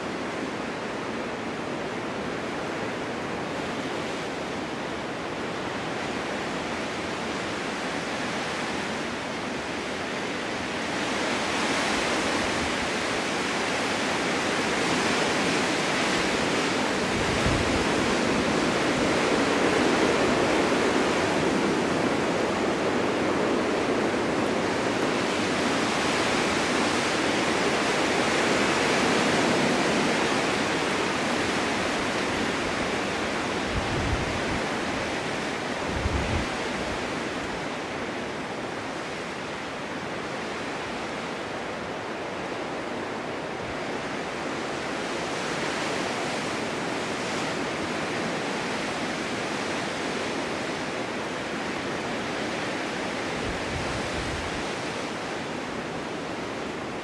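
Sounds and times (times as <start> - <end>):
snowstorm wind blowing: 0.0 - 57.0.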